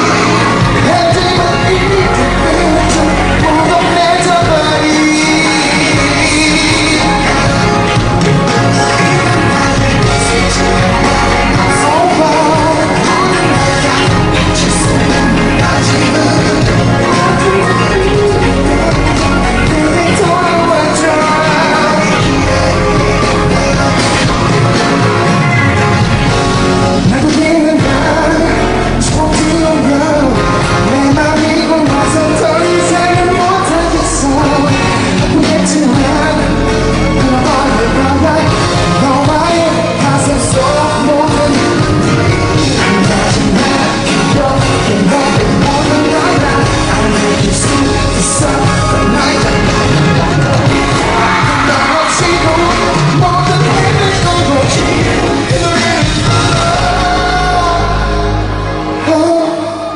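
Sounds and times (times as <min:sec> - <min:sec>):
live pop song over sound system: 0:00.0 - 0:59.9
man singing into microphone: 0:00.0 - 0:59.9.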